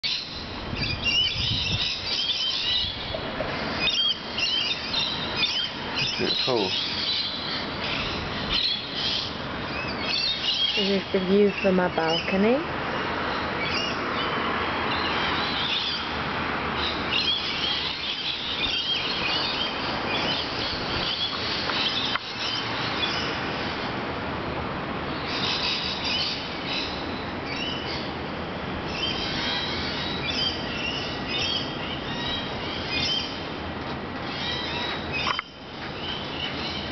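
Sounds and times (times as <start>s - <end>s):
small birds chirping: 0.0s - 23.5s, 28.9s - 33.6s, 34.2s - 36.9s
steady outdoor hiss: 0.0s - 36.9s.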